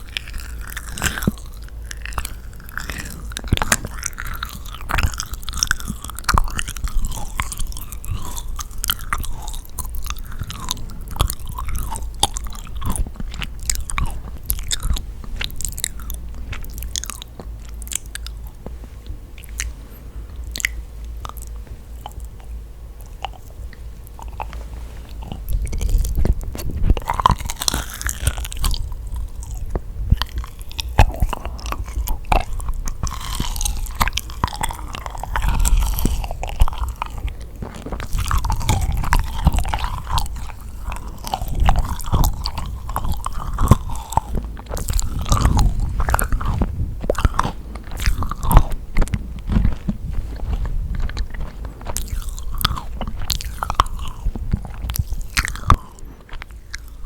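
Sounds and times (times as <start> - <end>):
biting and chewing cookie: 0.0 - 57.0
wet mouth clicks: 0.0 - 57.0.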